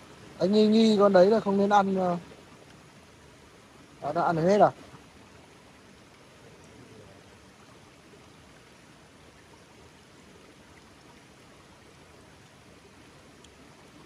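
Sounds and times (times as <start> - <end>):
faint stream flowing: 0.0 - 14.0.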